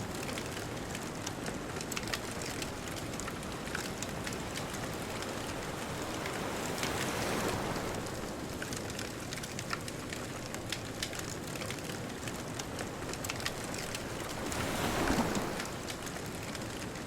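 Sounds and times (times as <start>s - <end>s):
bonfire crackling: 0.1s - 17.0s.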